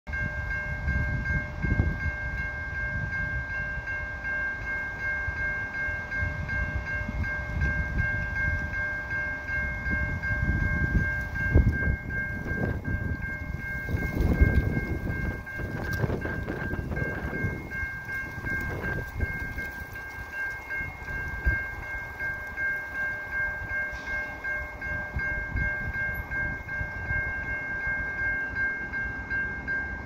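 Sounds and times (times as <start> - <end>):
level-crossing warning bell ringing: 0.1 - 30.0.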